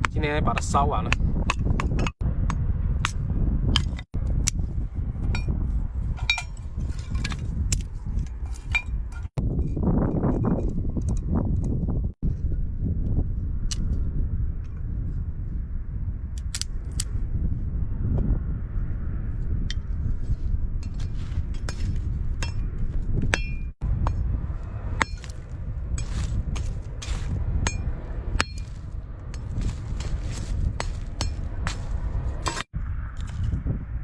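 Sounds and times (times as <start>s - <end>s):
low rumble: 0.9s - 34.0s.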